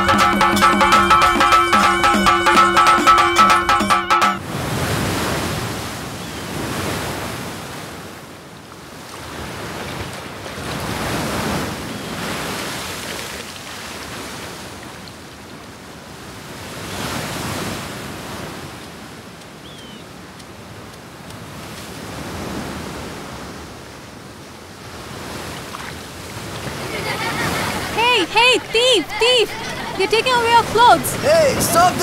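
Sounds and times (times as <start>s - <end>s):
waves breaking on beach: 4.4s - 32.0s.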